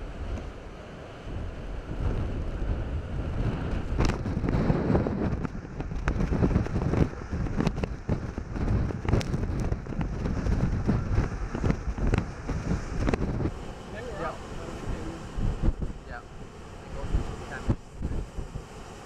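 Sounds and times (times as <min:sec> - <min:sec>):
surf crashing against rocks: 0:00.0 - 0:19.0
wind buffeting microphone: 0:00.0 - 0:19.0.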